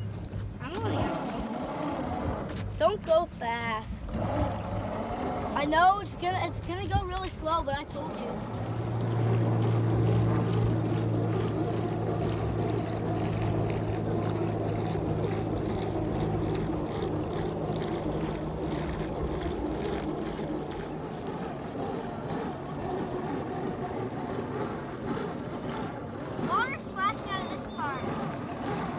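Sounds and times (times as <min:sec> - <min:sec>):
low motor hum: 0:00.0 - 0:28.9
water wash: 0:00.0 - 0:28.9.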